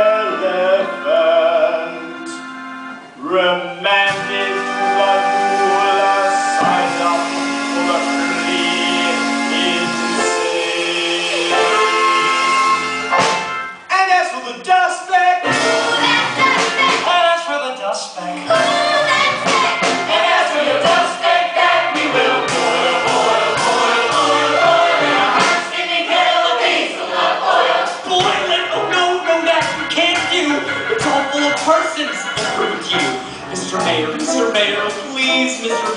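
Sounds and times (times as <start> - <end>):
ensemble singing: 0.0 - 13.1, 18.4 - 35.9
instrumental accompaniment: 0.0 - 13.9, 15.4 - 17.4, 18.2 - 35.9.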